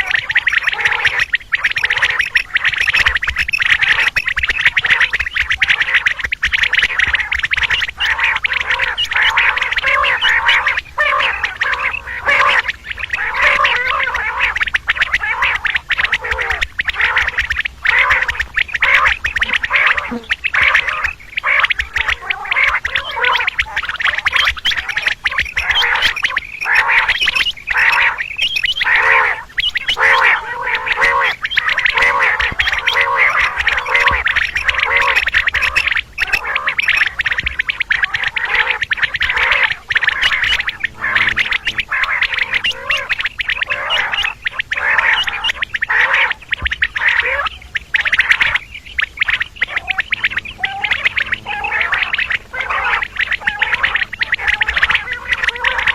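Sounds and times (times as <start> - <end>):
quail calling: 0.0 - 55.9.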